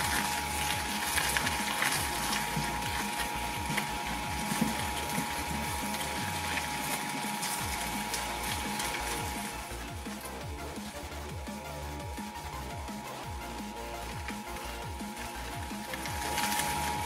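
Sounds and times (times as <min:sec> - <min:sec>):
small clicks and scrapes: 0:00.0 - 0:11.0, 0:13.5 - 0:17.0
shredder cutters chattering: 0:00.0 - 0:17.0
thin shredder whine: 0:00.0 - 0:17.0.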